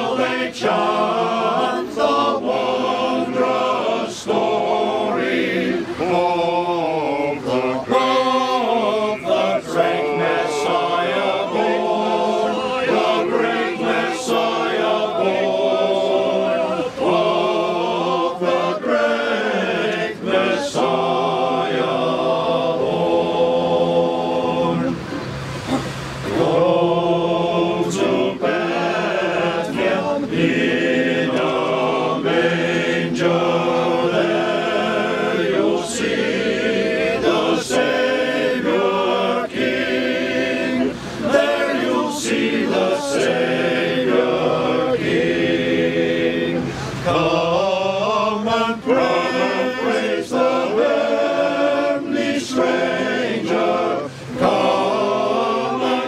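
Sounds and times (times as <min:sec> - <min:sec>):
group singing in harmony: 0:00.0 - 0:56.0.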